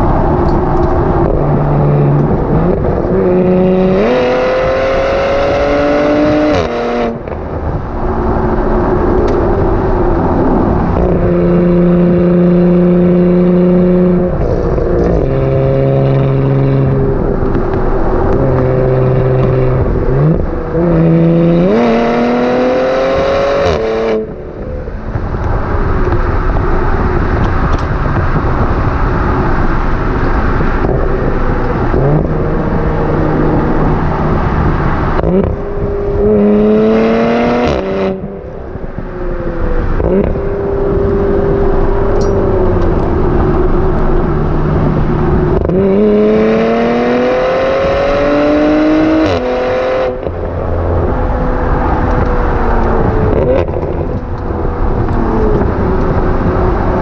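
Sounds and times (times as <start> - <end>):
car exhaust note: 0.0 - 57.0
wind and road noise: 0.0 - 57.0.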